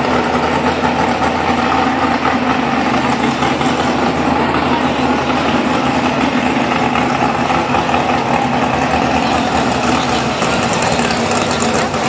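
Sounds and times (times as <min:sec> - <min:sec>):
loud vehicle engine running: 0:00.0 - 0:12.0.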